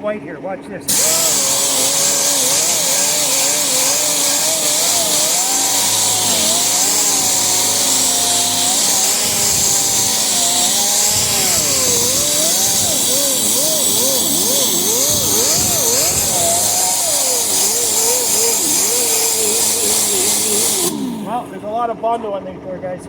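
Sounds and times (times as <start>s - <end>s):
power sander grinding filler: 0.9s - 21.8s.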